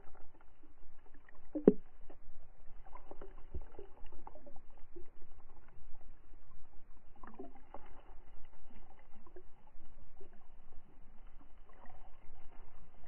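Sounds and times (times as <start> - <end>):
muffled underwater rumble: 0.0 - 13.0
water splashes: 0.0 - 13.0.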